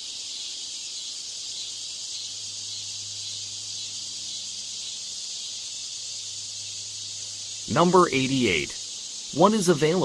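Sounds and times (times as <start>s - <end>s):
high-pitched hiss: 0.0s - 10.0s.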